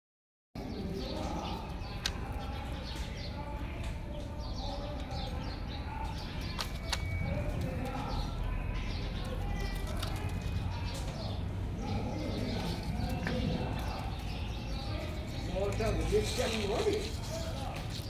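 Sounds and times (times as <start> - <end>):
birds chirping: 0.6 - 18.0.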